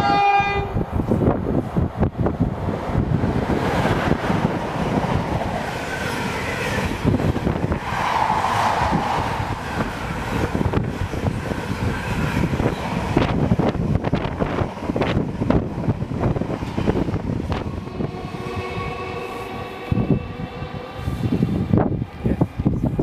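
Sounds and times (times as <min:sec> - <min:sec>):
freight train wagons rumbling: 0:00.9 - 0:23.0.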